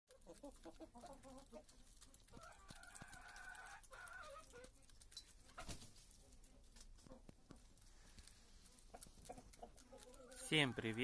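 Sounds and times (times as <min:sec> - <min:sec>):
beaks pecking at ground: 0:00.1 - 0:11.0
chickens clucking: 0:00.1 - 0:11.0.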